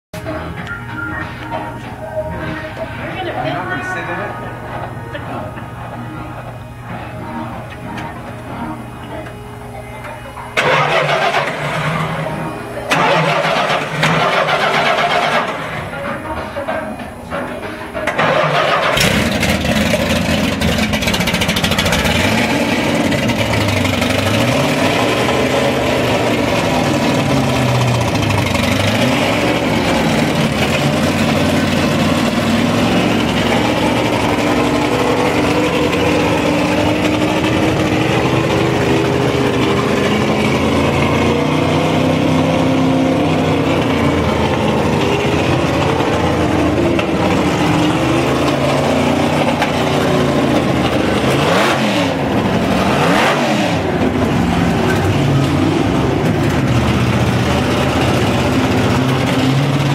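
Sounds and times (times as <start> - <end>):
race car engine revving and idling: 10.5 - 59.9.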